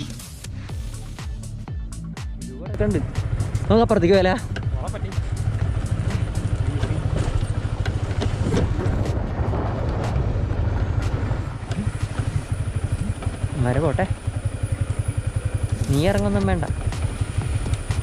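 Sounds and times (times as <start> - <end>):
road vehicle low rumble: 0.0 - 18.0.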